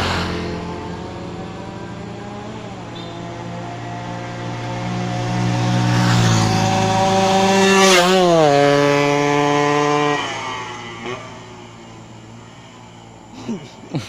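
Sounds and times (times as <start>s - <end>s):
motorcycle passing at speed: 0.0s - 13.4s.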